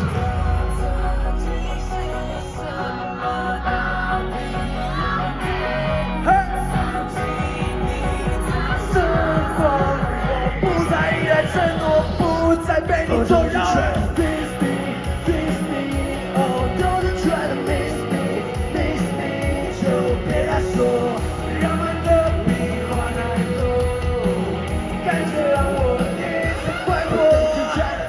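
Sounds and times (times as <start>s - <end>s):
live band playing rock pop song: 0.0s - 28.0s
person singing: 0.0s - 28.0s.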